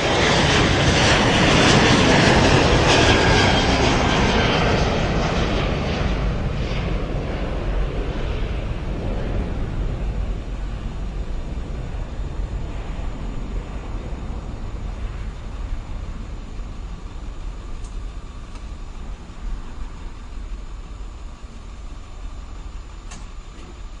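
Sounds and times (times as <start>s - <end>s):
airplane rumble: 0.0s - 24.0s.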